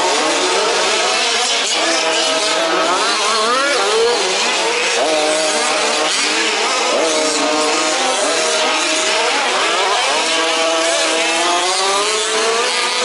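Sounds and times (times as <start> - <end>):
small two-stroke engines buzzing: 0.0 - 13.0.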